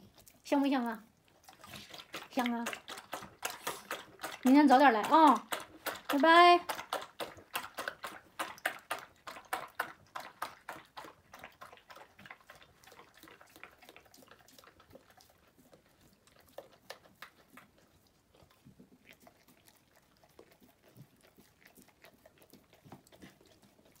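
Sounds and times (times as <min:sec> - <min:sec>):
dog licking and chewing: 0:00.0 - 0:24.0.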